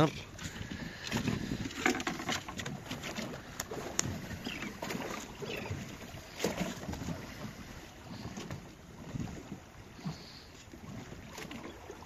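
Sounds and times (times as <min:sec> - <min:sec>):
knocks and clicks on boat: 0:00.0 - 0:12.0
water lapping at boat hull: 0:00.0 - 0:12.0
wind on microphone: 0:00.0 - 0:12.0.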